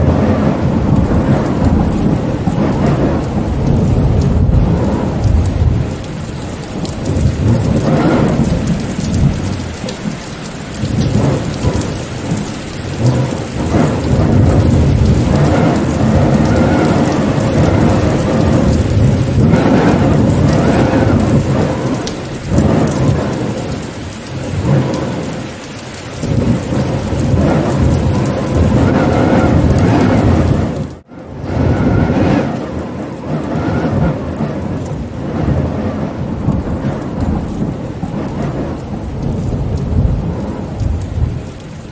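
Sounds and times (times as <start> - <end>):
deep rumbling: 0.0 - 25.5, 26.1 - 41.9
heavy rain falling: 0.0 - 41.9.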